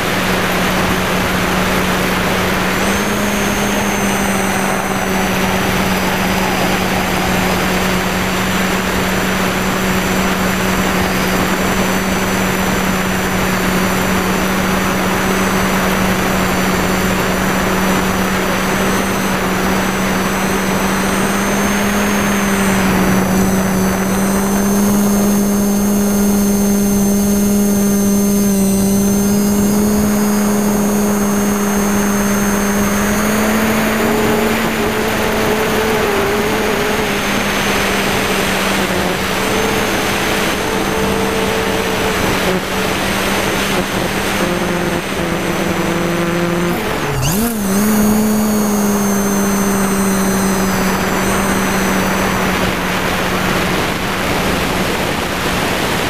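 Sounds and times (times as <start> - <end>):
drone motors humming: 0.0 - 56.0
wind noise on microphone: 0.0 - 56.0.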